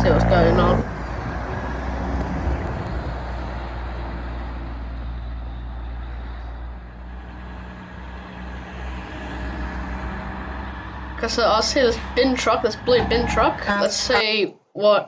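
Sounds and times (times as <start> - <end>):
truck diesel engine rumble: 0.0 - 14.3
road noise: 0.0 - 14.4.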